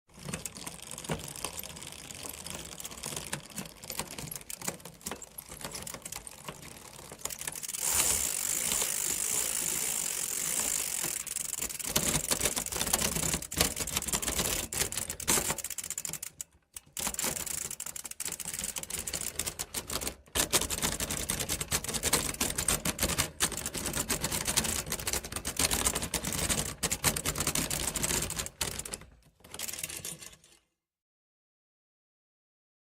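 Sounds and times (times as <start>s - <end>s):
rapid ratcheting clicks: 0.1s - 30.4s
bicycle wheels and chain spinning: 0.1s - 30.6s.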